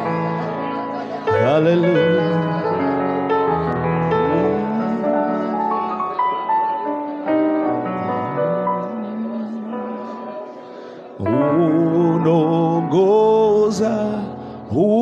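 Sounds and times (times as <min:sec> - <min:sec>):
slow worship music on keyboard: 0:00.0 - 0:15.0.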